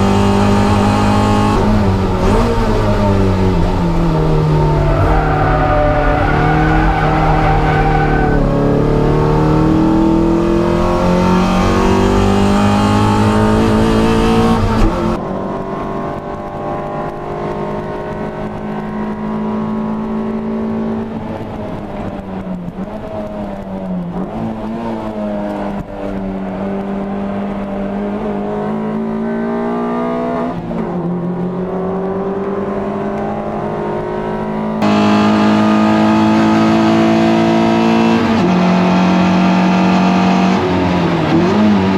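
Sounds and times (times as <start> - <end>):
race car engine accelerating: 0.0 - 41.9.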